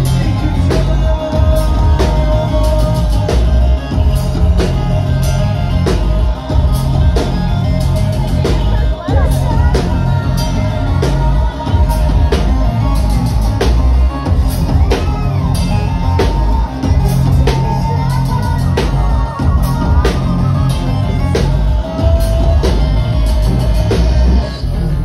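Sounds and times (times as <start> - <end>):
electronic rock band playing: 0.0 - 25.0.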